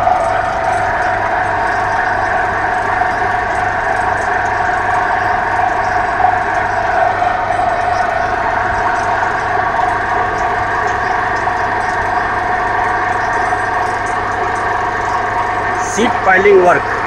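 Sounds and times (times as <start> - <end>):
steady whine: 0.0 - 17.0.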